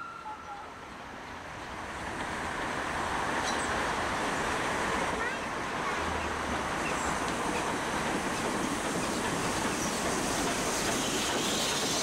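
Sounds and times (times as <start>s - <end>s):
steam locomotive rushing: 0.0s - 12.0s.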